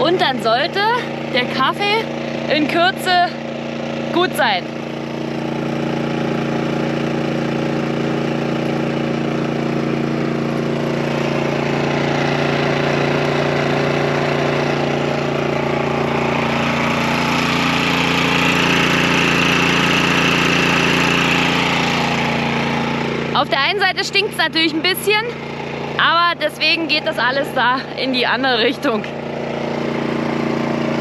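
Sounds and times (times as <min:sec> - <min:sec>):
portable generator running: 0:00.0 - 0:31.0.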